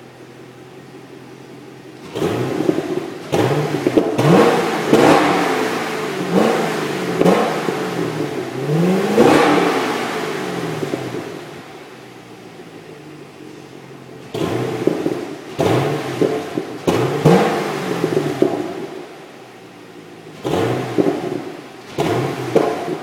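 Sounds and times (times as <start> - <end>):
car engine revving: 1.5 - 23.0.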